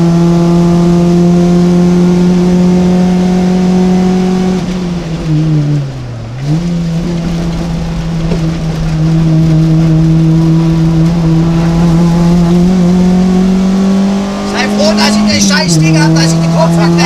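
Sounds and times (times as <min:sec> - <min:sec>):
car engine revving from inside: 0:00.0 - 0:17.0.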